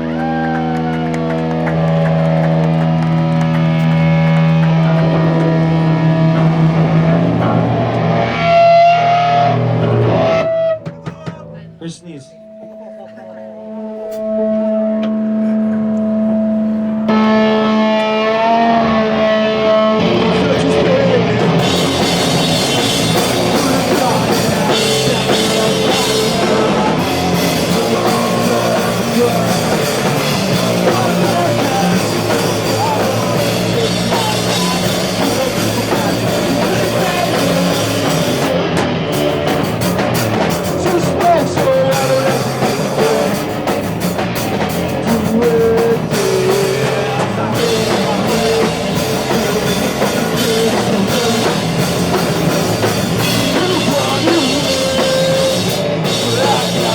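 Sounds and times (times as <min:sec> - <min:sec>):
punk band playing live: 0:00.0 - 0:56.9.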